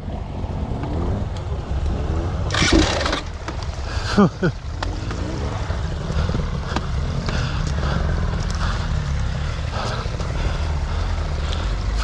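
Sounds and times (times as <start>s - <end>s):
dirt bike engine running: 2.4s - 12.0s.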